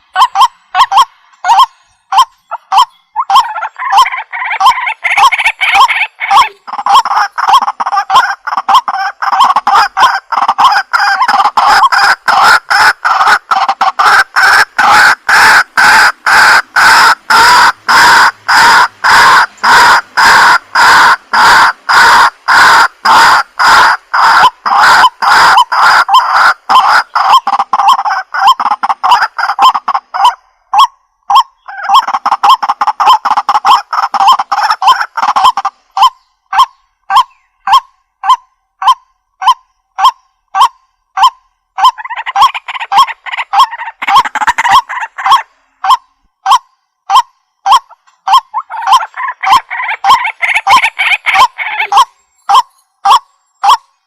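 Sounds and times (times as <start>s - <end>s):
waterhen calling: 0.0s - 54.0s.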